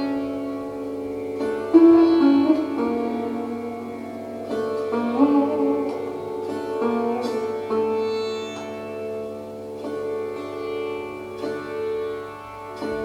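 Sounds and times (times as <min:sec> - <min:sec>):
sitar melody: 0:00.0 - 0:13.0.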